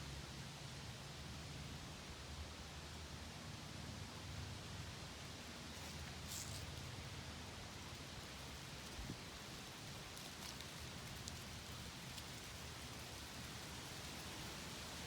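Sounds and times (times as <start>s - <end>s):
wind through trees and leaves: 0.0s - 15.0s
light ticks of leaves: 1.8s - 15.0s.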